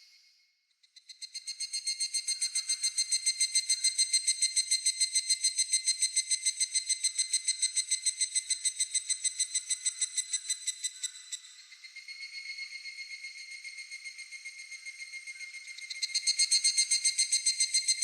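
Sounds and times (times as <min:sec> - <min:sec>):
cicada ringing call: 0:01.0 - 0:18.0.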